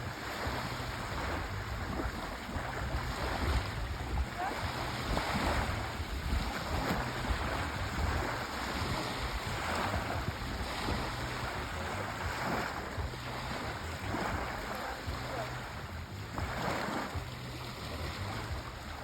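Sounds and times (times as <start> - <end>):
low rumble: 0.0 - 19.0
sea waves washing onto shore: 0.0 - 19.0.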